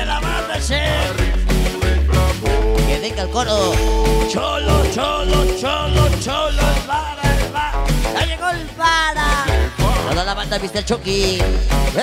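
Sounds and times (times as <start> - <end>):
cumbia music over sound system: 0.0 - 12.0.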